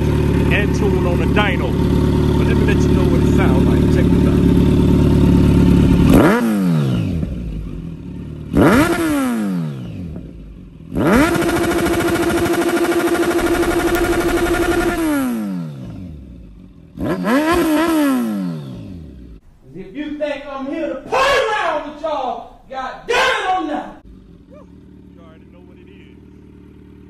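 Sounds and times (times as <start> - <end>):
motorcycle engine revving: 0.0 - 19.4, 24.0 - 27.0.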